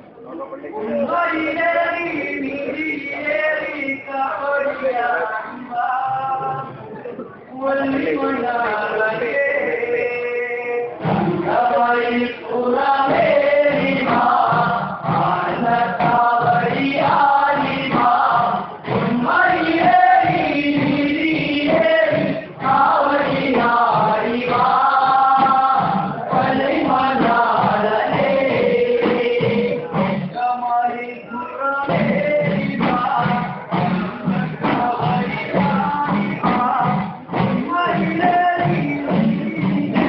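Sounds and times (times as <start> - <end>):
men singing in chorus: 0.9 - 40.0.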